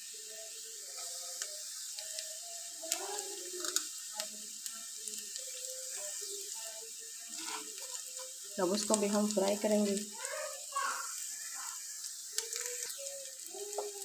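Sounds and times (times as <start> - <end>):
onion sizzling in oil: 0.0 - 14.0.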